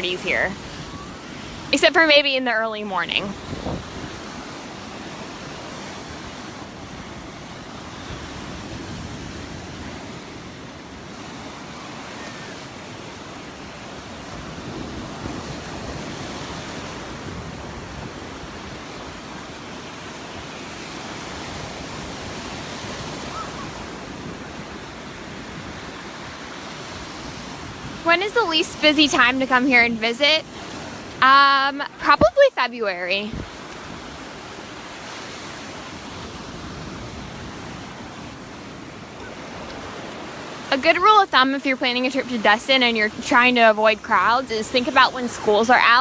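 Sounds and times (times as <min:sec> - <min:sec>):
wind on microphone: 0:00.0 - 0:40.8
surf washing onto sandy beach: 0:00.0 - 0:46.0.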